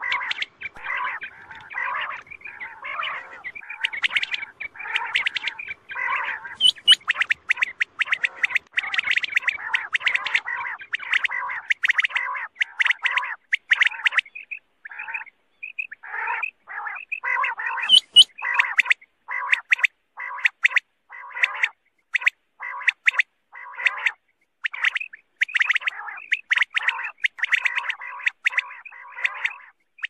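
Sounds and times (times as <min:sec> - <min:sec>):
quail calling: 0:00.0 - 0:30.0.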